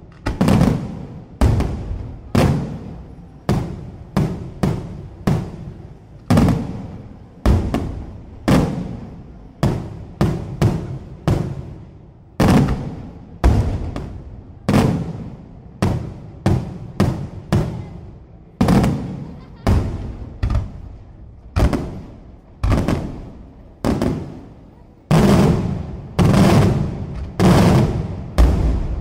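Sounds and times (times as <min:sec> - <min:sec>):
fireworks booming: 0:00.0 - 0:29.0.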